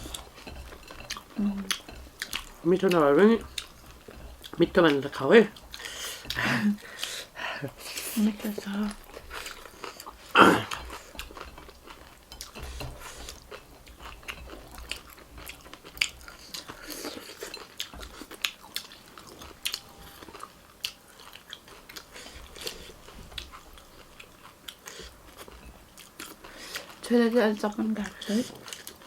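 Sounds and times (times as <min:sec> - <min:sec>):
chewing crunchy food: 0:00.0 - 0:29.0.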